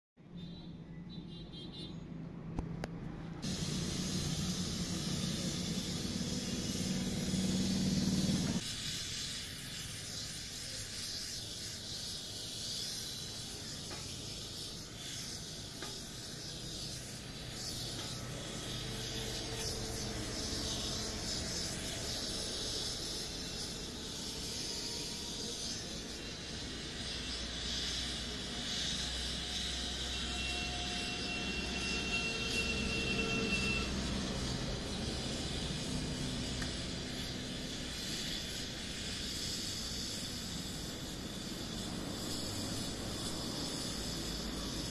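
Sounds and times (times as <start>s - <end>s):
welding torch flame hissing: 2.6s - 44.9s.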